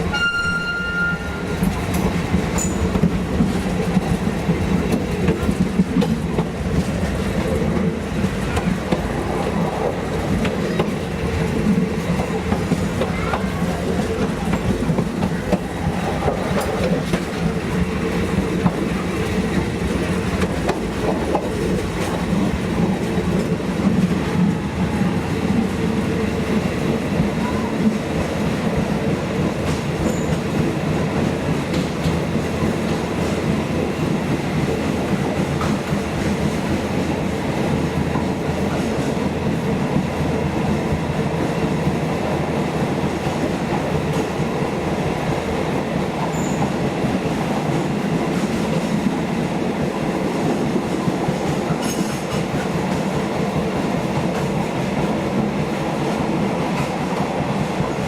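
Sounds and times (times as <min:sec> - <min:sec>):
low train drone: 0:00.0 - 0:58.0
rail joint clicks: 0:00.0 - 0:58.0
train wheels rumbling on rails: 0:00.0 - 0:58.0.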